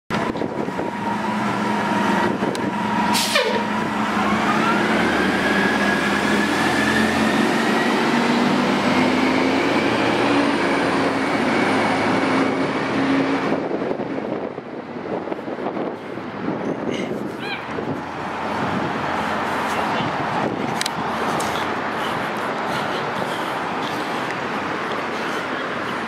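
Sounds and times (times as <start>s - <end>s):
bus engine whine: 0.1s - 26.0s.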